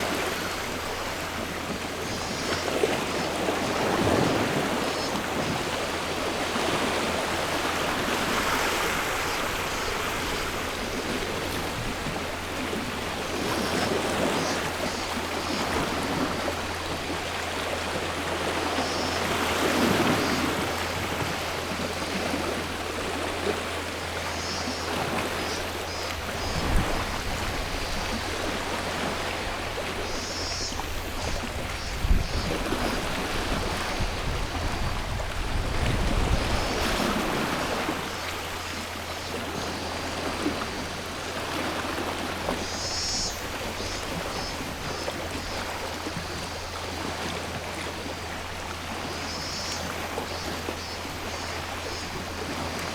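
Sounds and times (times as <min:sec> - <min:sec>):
cicadas calling: 0:00.0 - 0:52.9
sea waves washing ashore: 0:00.0 - 0:52.9.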